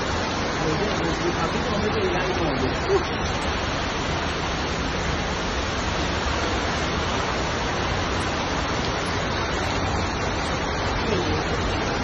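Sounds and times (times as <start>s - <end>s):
torrential rain pouring: 0.0s - 12.0s.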